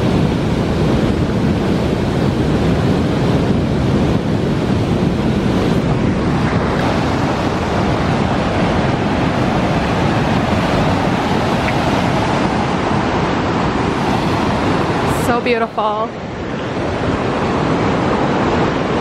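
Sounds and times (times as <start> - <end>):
waterfall and rapids rushing: 0.0 - 19.0
wind buffeting microphone: 0.0 - 19.0.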